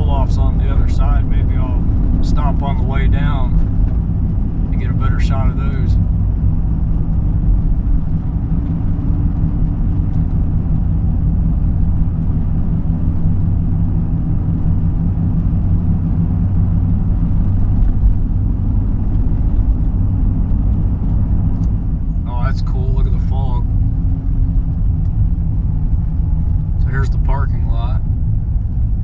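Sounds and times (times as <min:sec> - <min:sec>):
van engine and road noise: 0:00.0 - 0:29.0.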